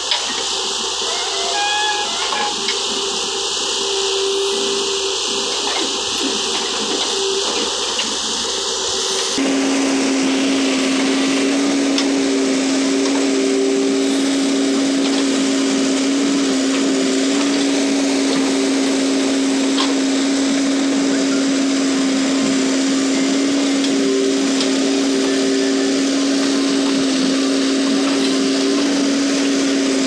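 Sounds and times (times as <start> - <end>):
diesel engine running under load: 0.0 - 30.0
hydraulic whine: 0.0 - 30.0.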